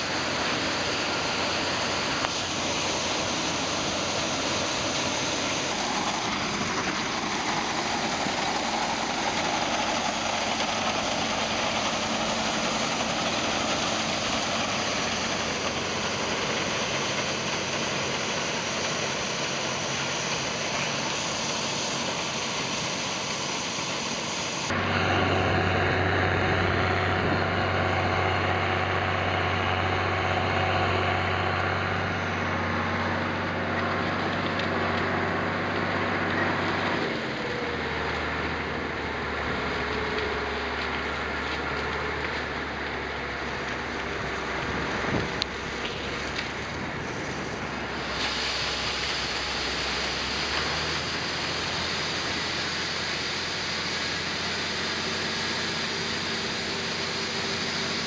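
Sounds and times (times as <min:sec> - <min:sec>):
combine harvester running: 0:00.0 - 0:58.0
engine drone with low hum: 0:00.0 - 0:58.0.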